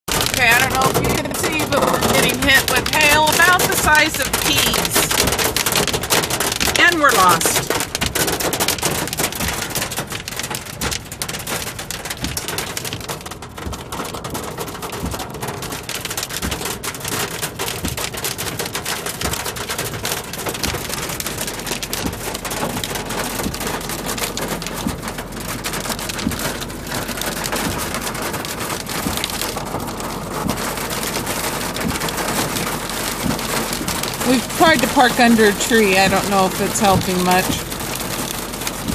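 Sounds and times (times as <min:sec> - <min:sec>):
hail pelting a car roof: 0:00.1 - 0:38.9.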